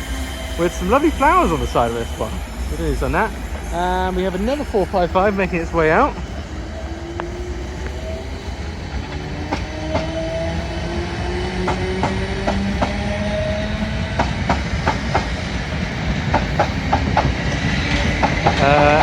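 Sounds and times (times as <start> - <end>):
electric train motors whining: 0.0 - 19.0
train rumble: 0.0 - 19.0.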